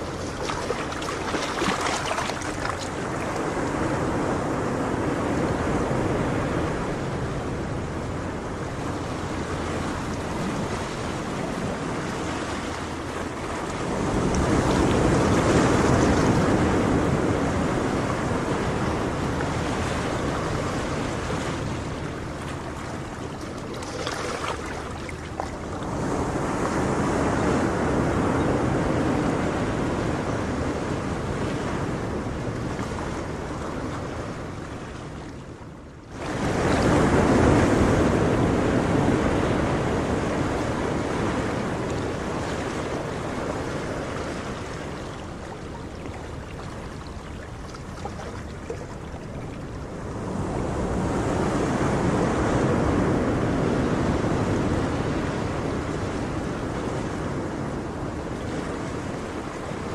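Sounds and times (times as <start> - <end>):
ocean waves washing in: 0.0 - 59.9.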